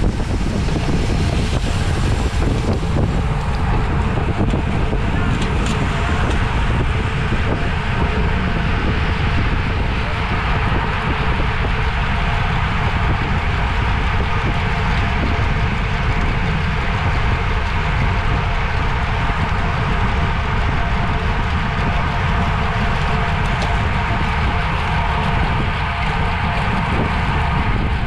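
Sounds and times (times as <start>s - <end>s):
faint steady whir: 0.0s - 28.0s
heavy low rumble: 0.0s - 28.0s
road noise: 0.0s - 28.0s
wind rush: 0.0s - 28.0s.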